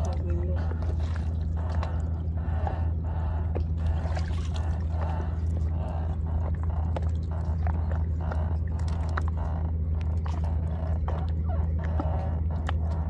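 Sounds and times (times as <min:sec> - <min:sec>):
boat engine droning: 0:00.0 - 0:13.0
water sloshing and splashing: 0:00.0 - 0:13.0.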